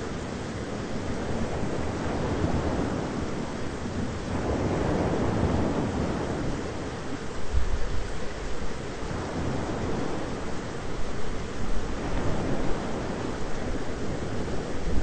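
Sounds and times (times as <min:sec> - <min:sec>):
rain rushing hiss: 0:00.0 - 0:15.0.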